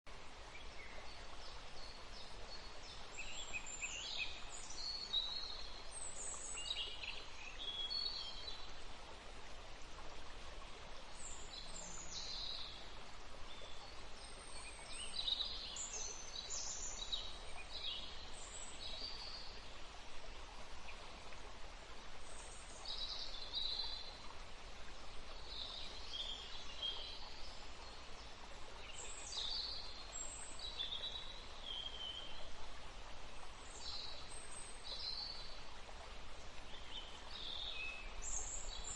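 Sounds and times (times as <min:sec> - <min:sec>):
steady background hiss: 0:00.1 - 0:38.9.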